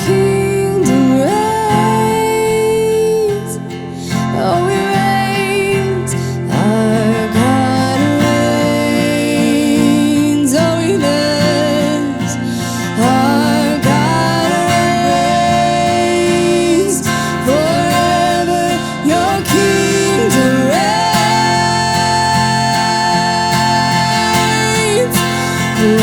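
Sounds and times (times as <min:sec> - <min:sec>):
acoustic guitar playing: 0:00.0 - 0:26.0
person singing wordlessly: 0:00.0 - 0:26.0.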